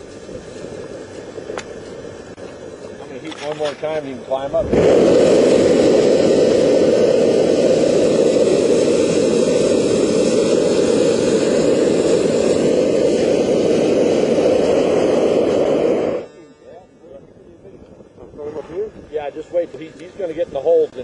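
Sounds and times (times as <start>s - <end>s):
propane burner blast: 0.0s - 21.0s.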